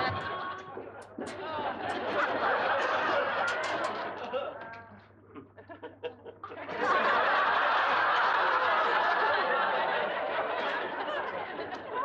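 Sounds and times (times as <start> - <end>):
audience laughing: 0.0 - 4.8, 5.4 - 12.0.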